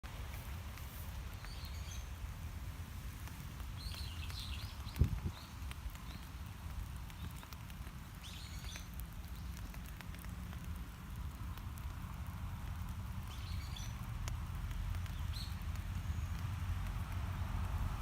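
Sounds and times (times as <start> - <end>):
wind rumble on microphone: 0.4 - 18.0
small ticks: 3.1 - 17.8.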